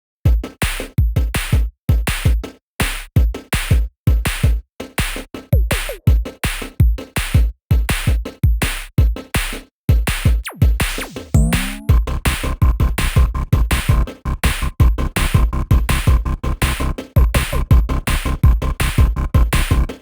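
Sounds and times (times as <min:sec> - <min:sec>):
electronic music with drum beat: 0:00.3 - 0:20.0.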